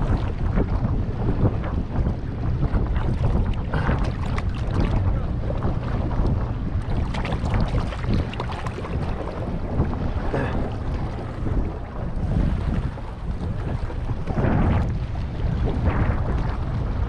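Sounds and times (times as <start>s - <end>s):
wind buffeting microphone: 0.0s - 17.0s
sea water splashing on rocks: 2.7s - 16.6s.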